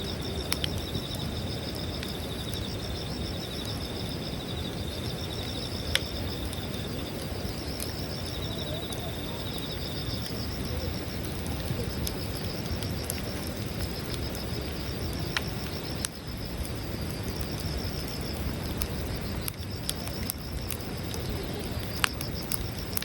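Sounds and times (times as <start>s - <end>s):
campfire crackling: 0.0s - 23.0s
insects trilling: 0.0s - 23.0s.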